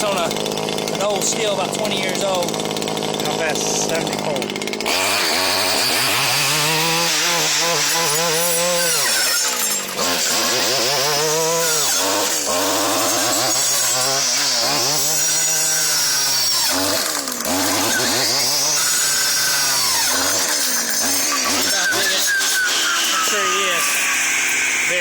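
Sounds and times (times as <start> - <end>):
brushcutter engine revving: 0.0 - 25.0
saw blade cutting wood: 0.0 - 25.0.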